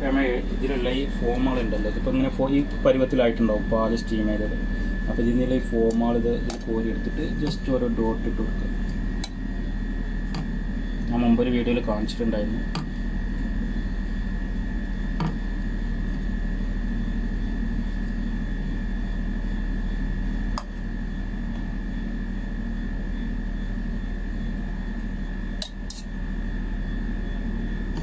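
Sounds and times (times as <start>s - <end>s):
machine hum with high whine: 0.0s - 28.0s.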